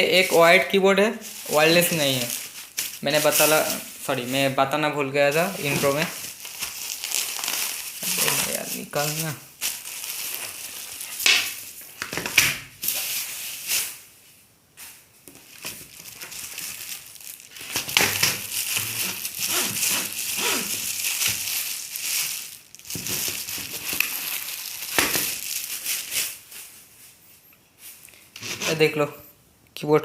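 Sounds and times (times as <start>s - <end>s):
plastic packaging crinkling: 0.0s - 14.0s, 15.3s - 26.8s.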